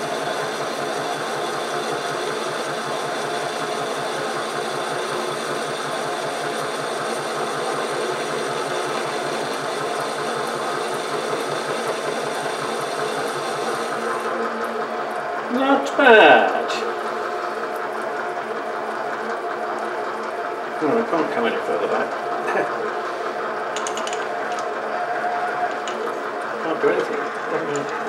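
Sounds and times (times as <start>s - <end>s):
lathe whining: 0.0s - 28.0s.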